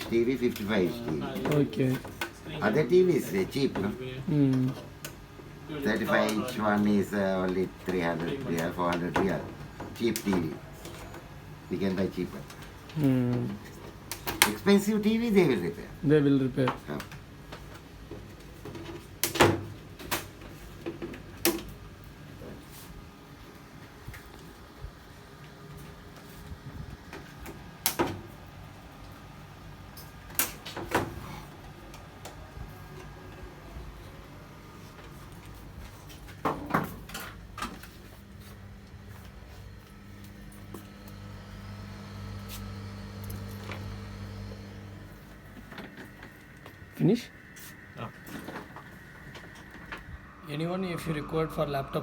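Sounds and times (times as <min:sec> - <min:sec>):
small machine humming: 0:00.0 - 0:17.4, 0:22.1 - 0:52.0.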